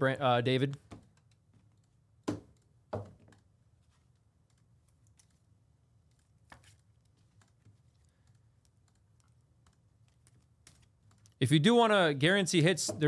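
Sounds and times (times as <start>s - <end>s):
keyboard typing: 0.8s - 11.4s.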